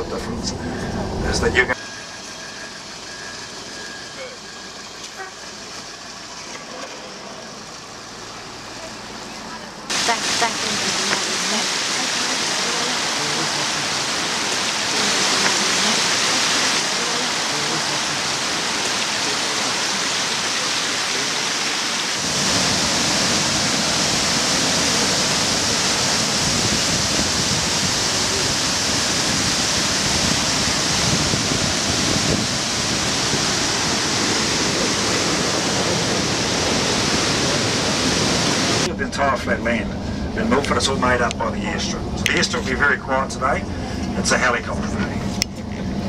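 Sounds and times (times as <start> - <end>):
rain and running water: 1.8 - 46.0.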